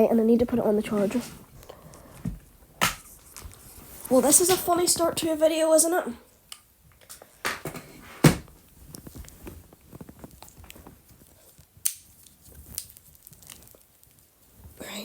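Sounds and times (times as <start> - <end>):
faint rustling: 0.0 - 6.4, 7.1 - 15.0.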